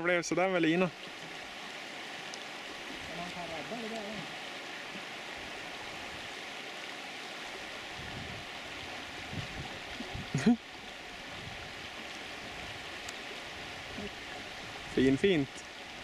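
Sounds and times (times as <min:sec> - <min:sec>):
running stream water: 0:00.0 - 0:16.0.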